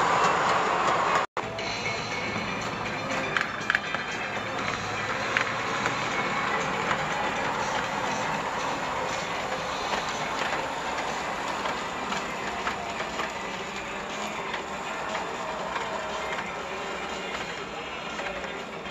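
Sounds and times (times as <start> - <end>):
model train wheels rumbling on rails: 0.0 - 18.9.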